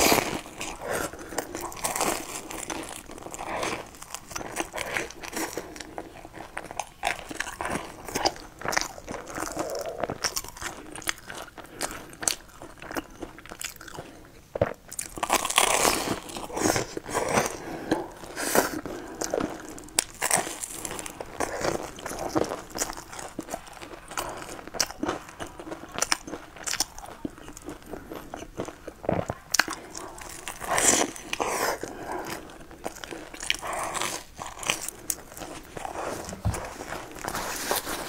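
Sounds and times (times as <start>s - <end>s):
crunching and chewing fried food: 0.0s - 38.0s.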